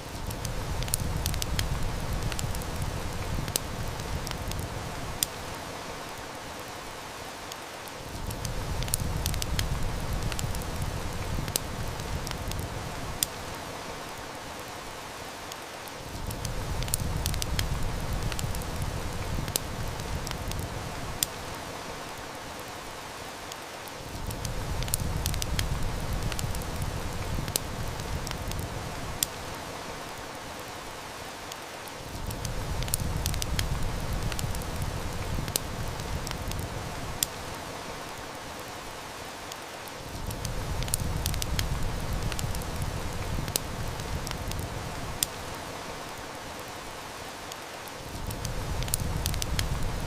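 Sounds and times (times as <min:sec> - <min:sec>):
rain hiss: 0:00.0 - 0:50.0
wood fire crackling: 0:00.0 - 0:50.0.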